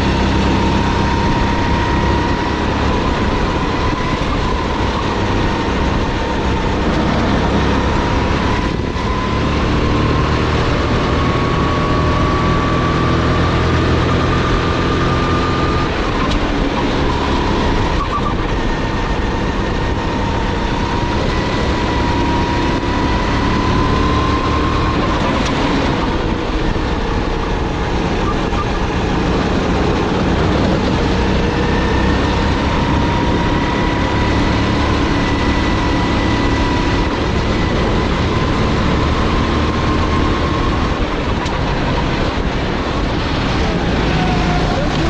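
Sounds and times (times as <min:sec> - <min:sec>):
kart engine revving: 0:00.0 - 0:45.0
wind rushing past microphone: 0:00.0 - 0:45.0.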